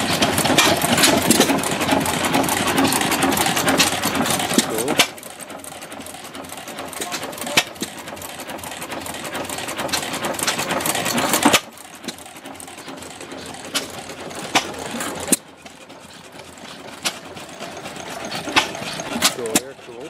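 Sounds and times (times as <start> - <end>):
engine pops: 0.0 - 20.0
stationary gas engines clattering: 0.0 - 20.0.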